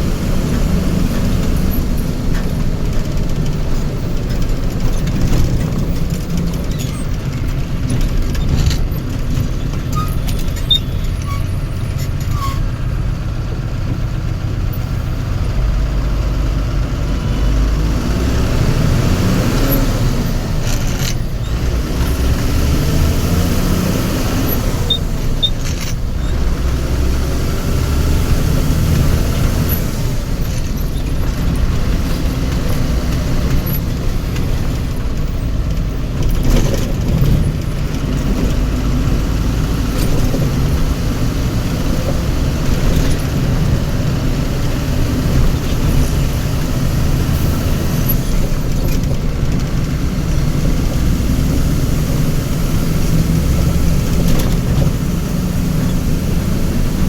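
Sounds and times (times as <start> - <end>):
traffic engines rumbling: 0.0 - 57.0.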